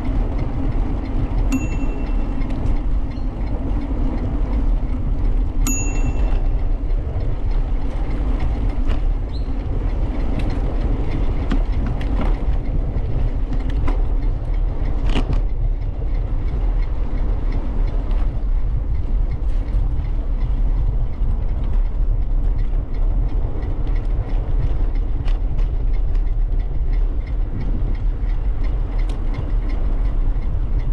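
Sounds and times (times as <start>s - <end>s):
bicycle rattles and clicks: 0.0s - 30.9s
wind and rolling rumble: 0.0s - 30.9s.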